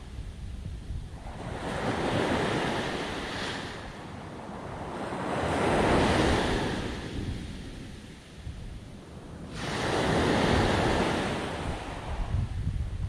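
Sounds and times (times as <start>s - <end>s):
wind buffeting microphone: 0.0s - 13.0s
sea waves breaking on beach: 1.1s - 12.6s.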